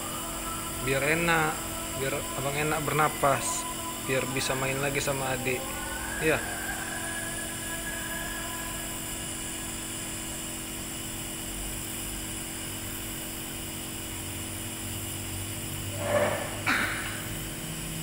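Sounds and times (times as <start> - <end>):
nebulizer compressor humming: 0.0 - 18.0.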